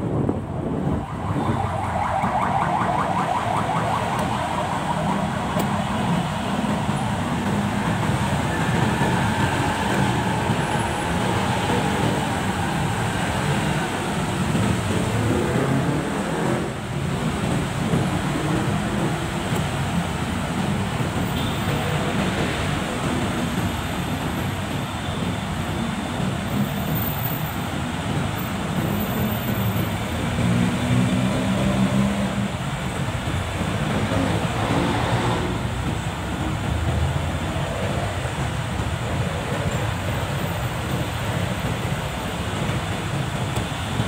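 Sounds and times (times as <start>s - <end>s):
road and traffic noise: 0.0s - 44.0s.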